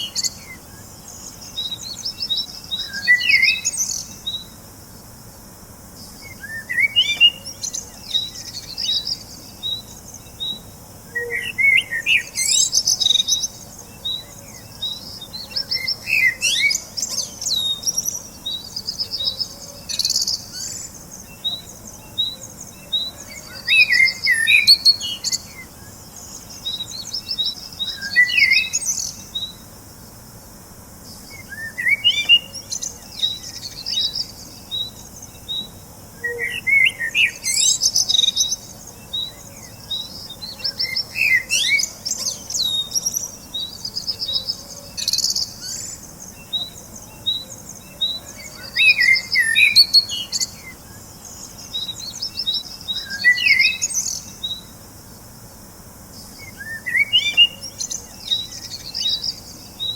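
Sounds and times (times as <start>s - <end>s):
birds chirping and singing: 0.0s - 4.6s, 6.0s - 29.6s, 31.1s - 54.8s, 56.2s - 59.9s.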